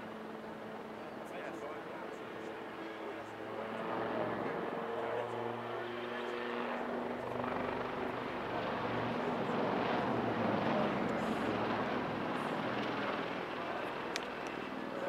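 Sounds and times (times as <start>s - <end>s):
helicopters passing overhead: 0.0s - 15.0s.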